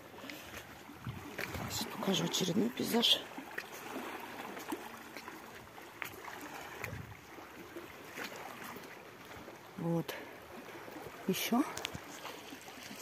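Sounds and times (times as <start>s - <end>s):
waves lapping against rocks: 0.0s - 13.0s.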